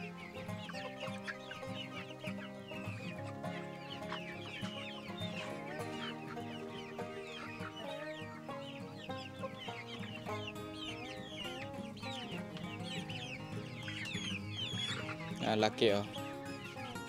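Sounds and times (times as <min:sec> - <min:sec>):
background music: 0:00.0 - 0:17.0
hens clucking: 0:00.0 - 0:17.0.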